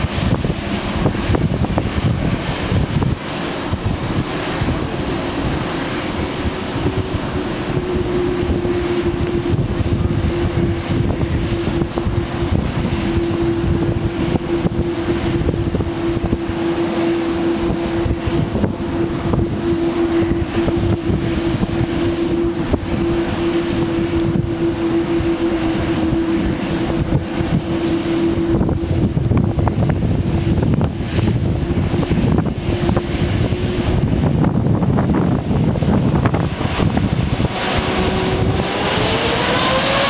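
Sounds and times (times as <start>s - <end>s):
jet engines at taxi power: 0.0s - 40.0s
wind buffeting microphone: 0.0s - 40.0s.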